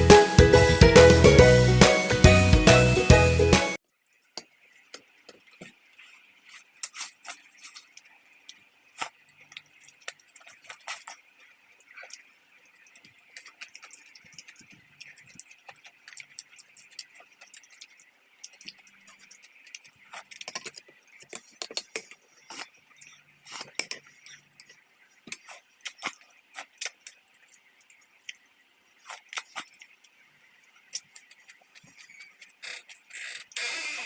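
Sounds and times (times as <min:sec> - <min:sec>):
faint steady hiss: 0:03.8 - 0:34.0.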